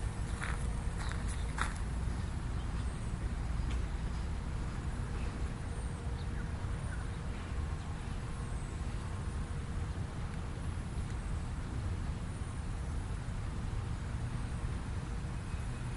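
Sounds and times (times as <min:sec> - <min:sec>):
low outdoor rumble: 0:00.0 - 0:15.9.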